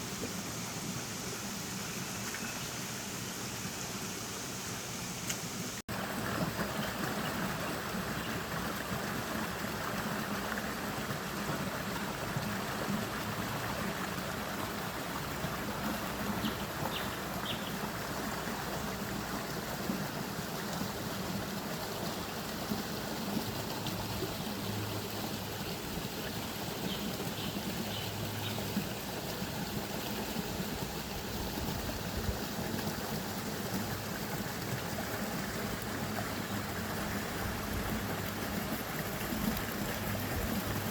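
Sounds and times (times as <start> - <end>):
stream flowing and trickling: 0.0 - 40.9.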